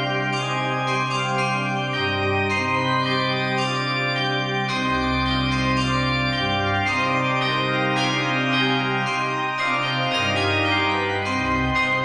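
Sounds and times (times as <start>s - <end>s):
slow sustained organ chords: 0.0s - 12.0s.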